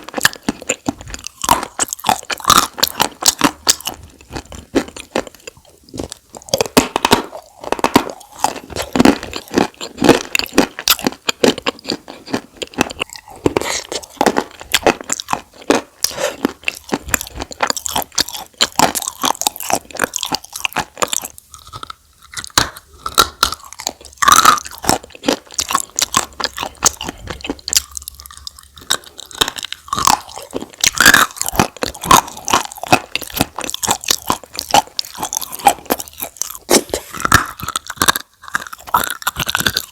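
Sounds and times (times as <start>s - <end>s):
crunching and chewing chalk: 0.0s - 39.9s.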